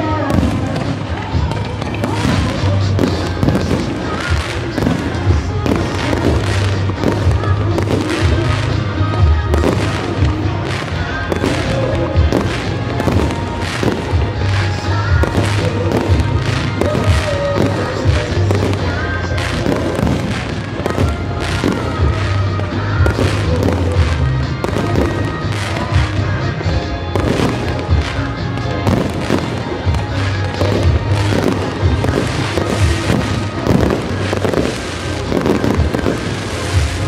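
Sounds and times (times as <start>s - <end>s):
fireworks bursting: 0.0s - 37.0s
loud music with steady bass: 0.0s - 37.0s.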